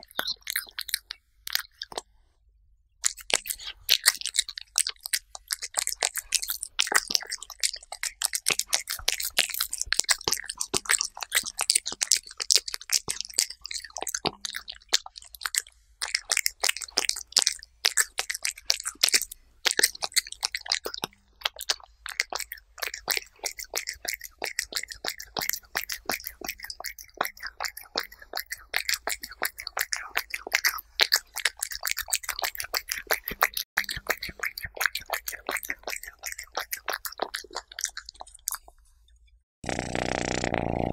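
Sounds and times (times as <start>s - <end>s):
cat chewing wet food: 3.0s - 38.8s.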